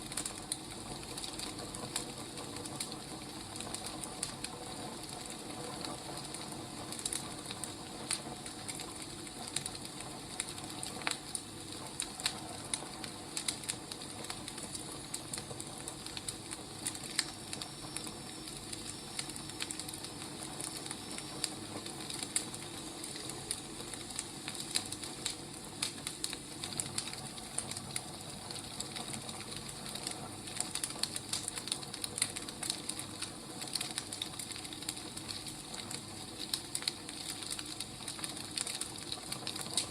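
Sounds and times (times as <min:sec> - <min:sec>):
wood fire crackling: 0:00.0 - 0:39.9
sharp pops and snaps: 0:06.2 - 0:39.9.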